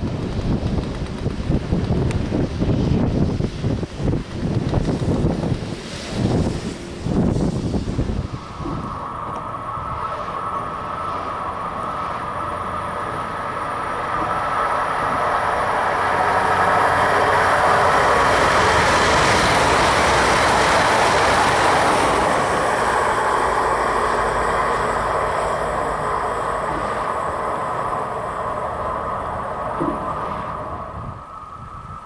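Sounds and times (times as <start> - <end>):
train passing on rails: 0.0 - 32.0.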